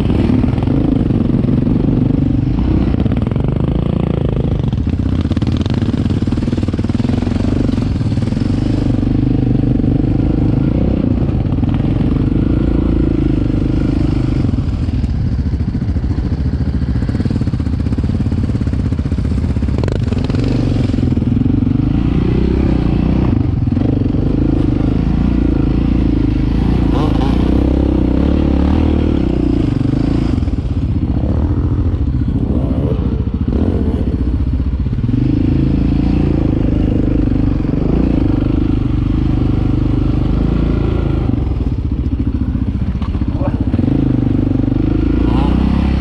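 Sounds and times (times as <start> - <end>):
quad bike engine revving: 0.0 - 46.0.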